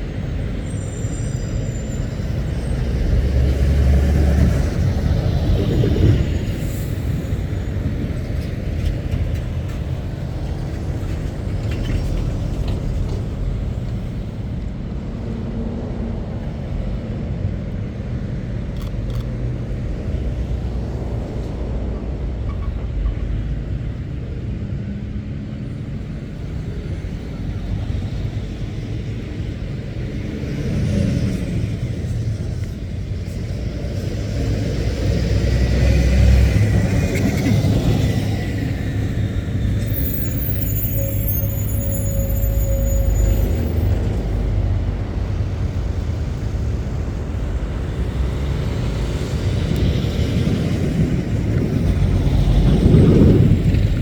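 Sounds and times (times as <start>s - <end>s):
lorries passing: 0.0s - 54.0s.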